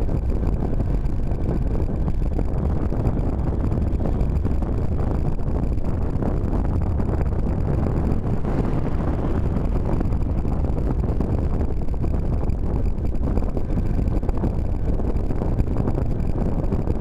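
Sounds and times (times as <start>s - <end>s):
rumbling road noise: 0.0s - 17.0s
wind buffeting microphone: 0.0s - 17.0s.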